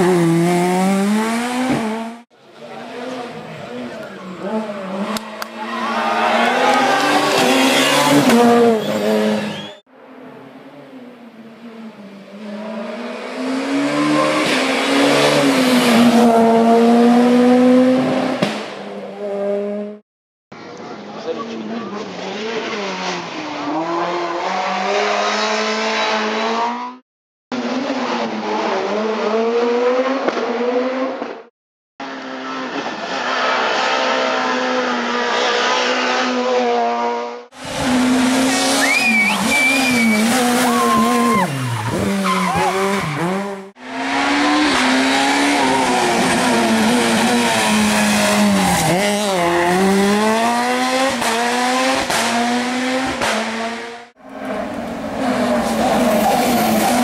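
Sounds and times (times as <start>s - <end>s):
rally car engines revving: 0.0s - 20.0s, 21.4s - 27.0s, 27.6s - 31.4s, 32.0s - 57.0s.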